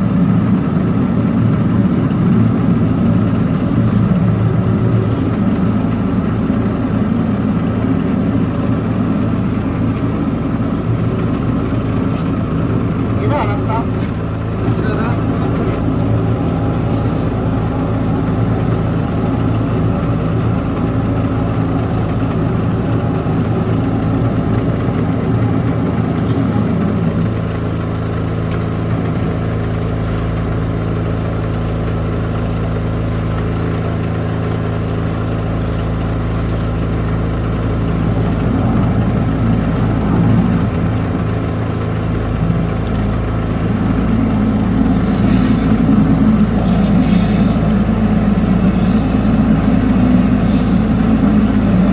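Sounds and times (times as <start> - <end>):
pressure washer droning: 0.0 - 51.9.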